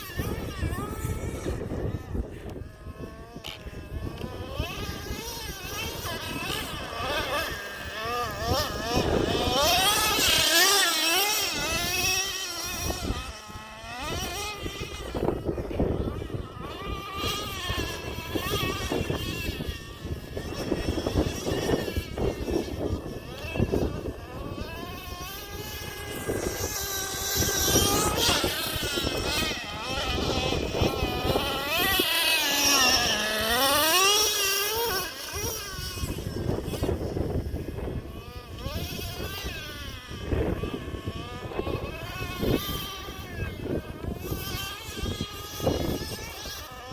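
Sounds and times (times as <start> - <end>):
rc truck engine revving: 0.0 - 46.9.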